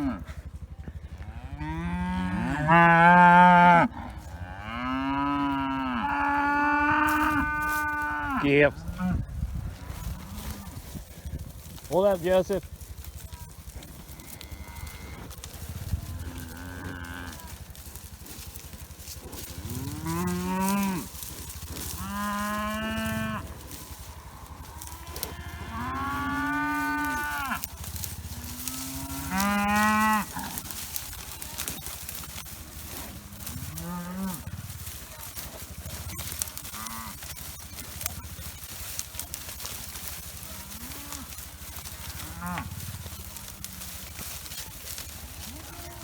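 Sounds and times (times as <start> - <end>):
cattle mooing: 0.0 - 11.3, 13.0 - 46.0
distant cattle calls: 0.0 - 46.0.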